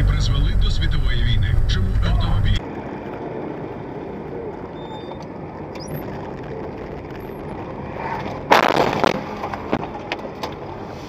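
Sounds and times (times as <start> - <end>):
vehicle road noise: 0.0 - 11.0.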